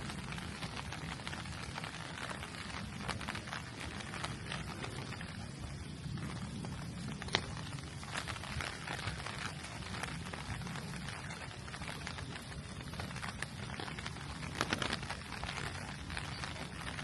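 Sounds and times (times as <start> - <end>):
rain falling: 0.0 - 17.0
raindrops ticking: 0.0 - 17.0.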